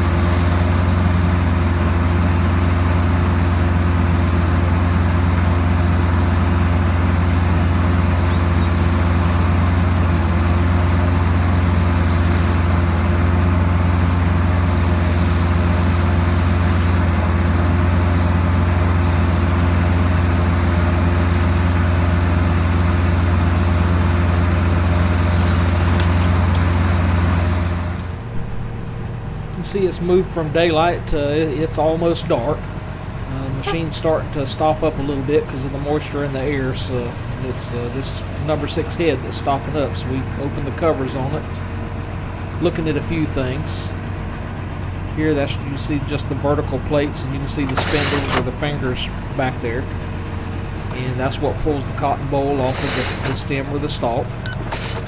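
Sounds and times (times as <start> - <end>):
diesel drone with low hum: 0.0 - 55.0.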